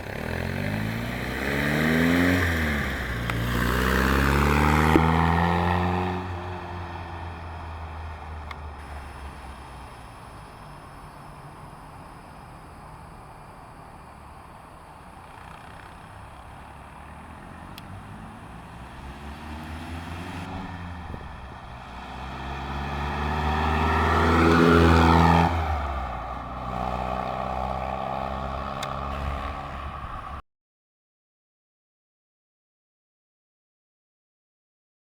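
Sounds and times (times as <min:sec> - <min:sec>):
car engine driving past: 0:00.0 - 0:30.4.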